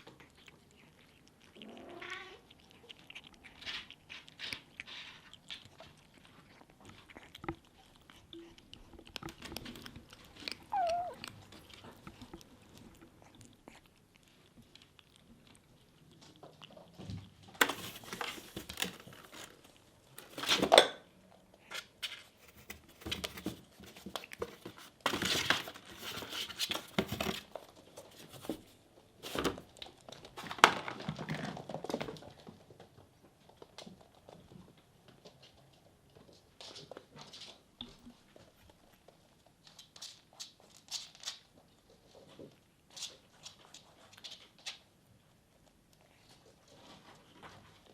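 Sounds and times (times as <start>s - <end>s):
kitten crunching dry kibble: 0.0s - 47.9s.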